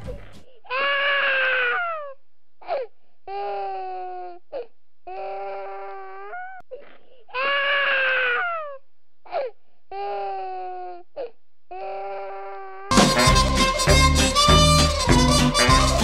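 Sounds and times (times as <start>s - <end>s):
baby crying: 0.7s - 6.6s, 7.3s - 16.0s.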